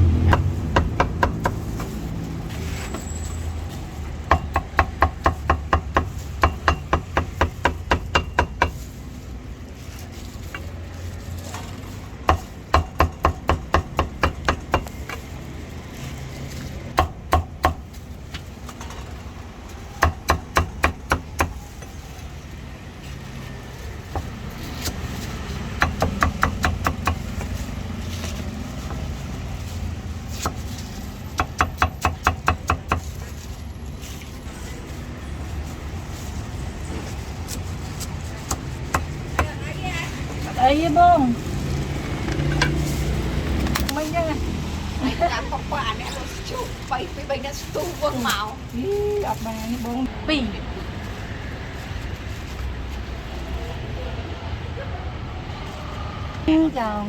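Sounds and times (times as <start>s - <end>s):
traffic hum: 0.0s - 57.0s.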